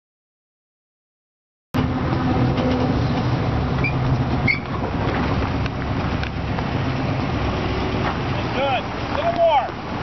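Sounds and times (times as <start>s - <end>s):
truck engine rumbling: 1.8s - 10.0s.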